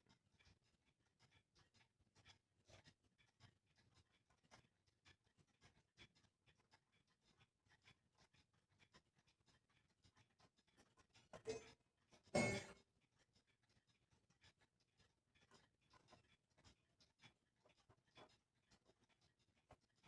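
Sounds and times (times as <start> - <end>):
faint clicks and scratches: 0.0 - 20.0.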